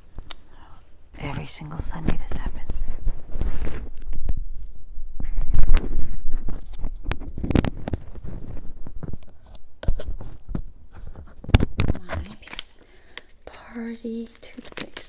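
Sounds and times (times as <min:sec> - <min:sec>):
rustling: 0:00.0 - 0:13.5, 0:14.1 - 0:15.0.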